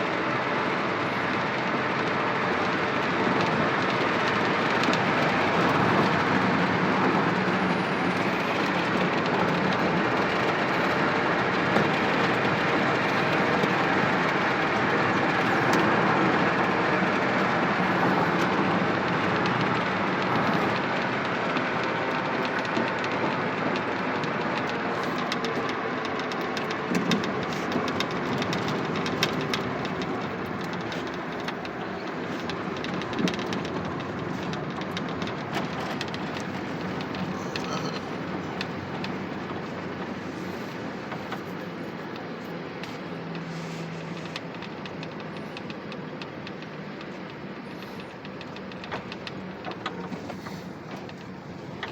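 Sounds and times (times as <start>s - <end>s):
truck engine and road noise: 0.0s - 51.9s
light rattling clicks: 1.3s - 51.9s.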